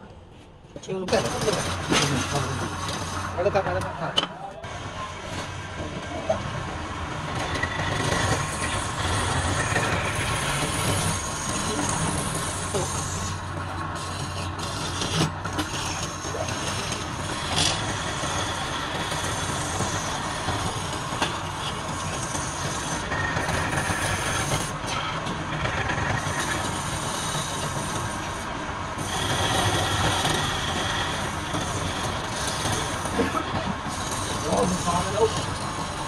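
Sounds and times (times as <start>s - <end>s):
wood lathe cutting wood: 1.0s - 36.0s.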